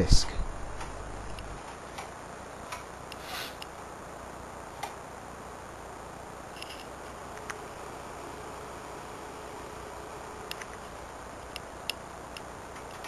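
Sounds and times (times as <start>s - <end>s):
floppy disc drive hum: 0.0s - 13.0s.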